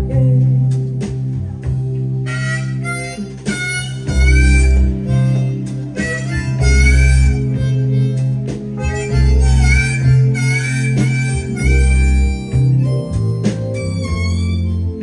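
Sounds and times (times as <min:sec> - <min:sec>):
bass: 0:00.0 - 0:15.0
guitar: 0:00.0 - 0:15.0
harmonica solo: 0:02.2 - 0:15.0.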